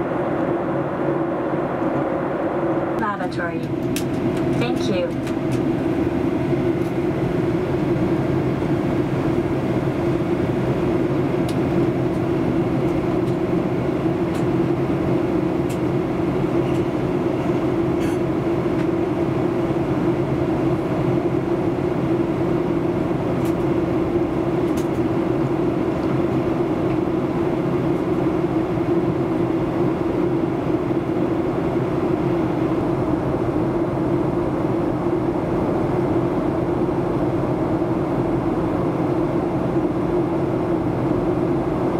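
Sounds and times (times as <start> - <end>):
aircraft engines droning: 0.0 - 41.9
airflow over fuselage: 0.0 - 41.9.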